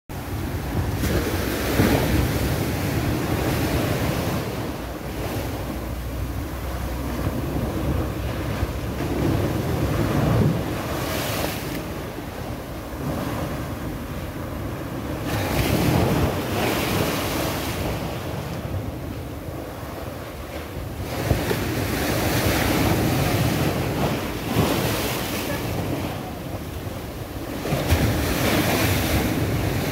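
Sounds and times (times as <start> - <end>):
sea waves breaking against seawall: 0.1 - 29.9
wind rumble on microphone: 0.1 - 29.9.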